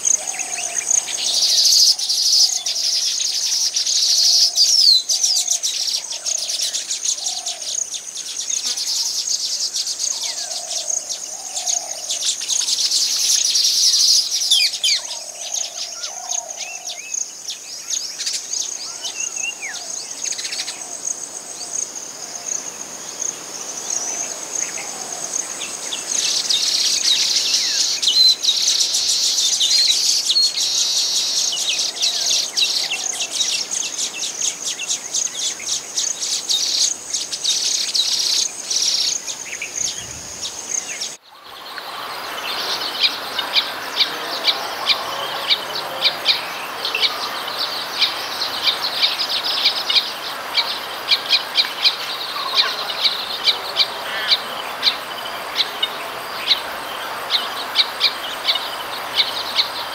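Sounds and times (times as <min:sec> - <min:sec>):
birds chirping and chattering: 0:00.0 - 0:59.9.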